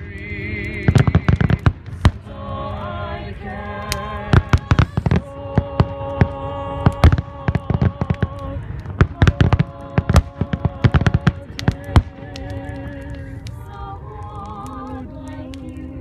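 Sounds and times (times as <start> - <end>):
fireworks bursting and crackling: 0.0 - 16.0
person singing with vibrato: 0.0 - 16.0.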